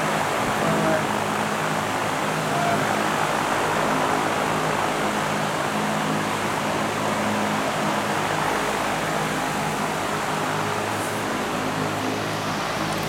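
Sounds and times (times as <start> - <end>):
fan air rush: 0.0 - 13.0.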